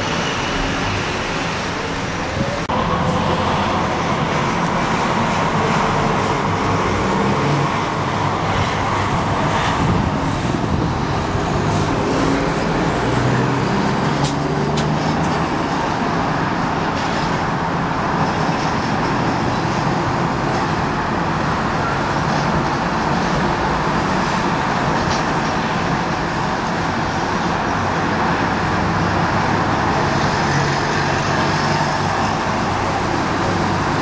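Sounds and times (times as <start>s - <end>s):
distant road traffic: 0.0s - 34.0s.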